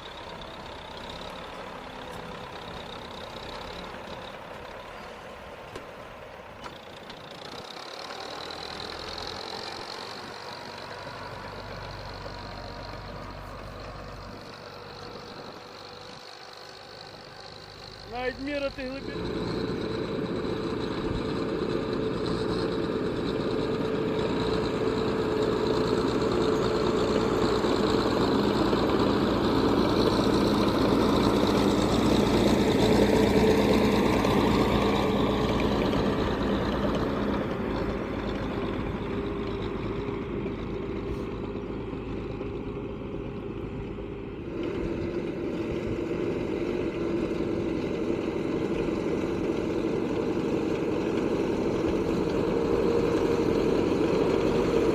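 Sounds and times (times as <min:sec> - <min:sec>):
crawler tractor diesel engine: 0:00.0 - 0:54.9.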